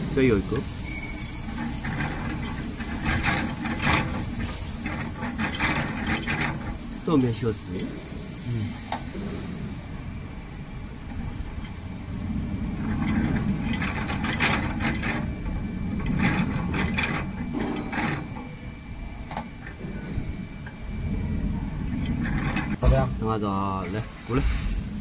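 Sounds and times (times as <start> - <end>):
machine low mechanical noise: 0.0 - 25.0.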